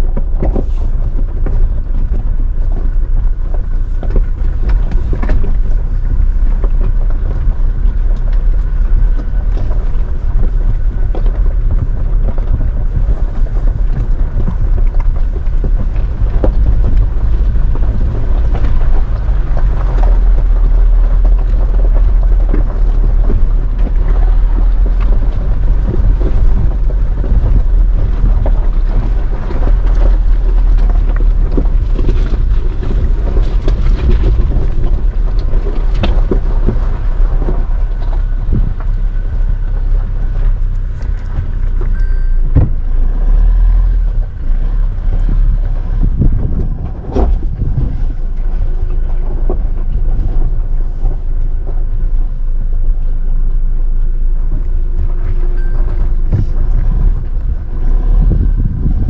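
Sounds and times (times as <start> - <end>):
stones knocking and rattling: 0.0 - 42.9, 44.1 - 52.0
vehicle rumble on gravel track: 0.0 - 59.0.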